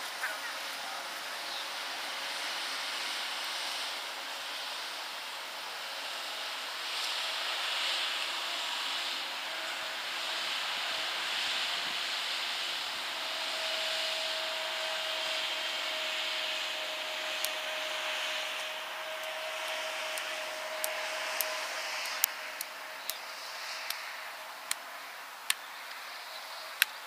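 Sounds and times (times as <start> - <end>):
steady rushing hiss: 0.0 - 27.0.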